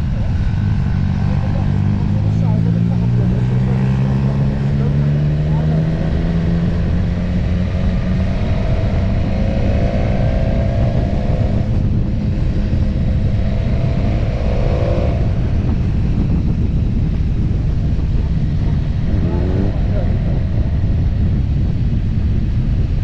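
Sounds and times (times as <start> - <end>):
motorcycle running: 0.0 - 23.0.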